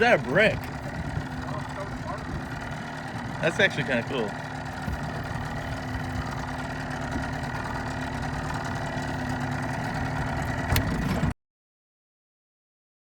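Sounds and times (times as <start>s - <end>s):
boat motor running: 0.0s - 11.4s.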